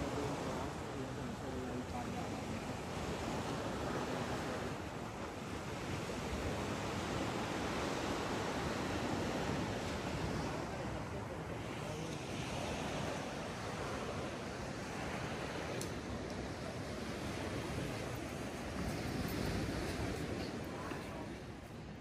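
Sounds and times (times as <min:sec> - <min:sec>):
sea waves washing on shore: 0:00.0 - 0:22.0
wind: 0:00.0 - 0:22.0.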